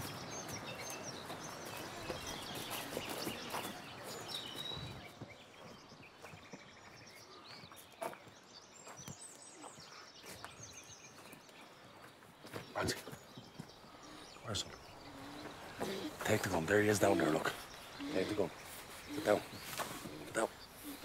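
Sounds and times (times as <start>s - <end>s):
bird chirps: 0.0s - 21.0s
footsteps on forest floor: 0.0s - 21.0s
woodland birds singing: 0.0s - 21.0s.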